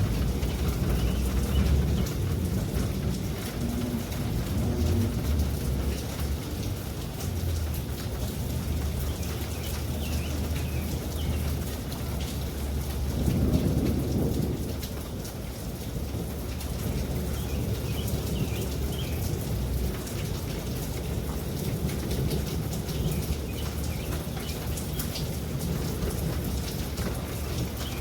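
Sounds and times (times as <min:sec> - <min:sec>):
heavy rain falling: 0:00.0 - 0:28.0
thunder rumbling: 0:00.0 - 0:28.0.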